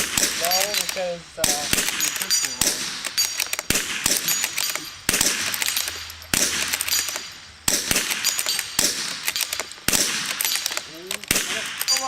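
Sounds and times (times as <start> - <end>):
rifle shots: 0.0 - 12.0.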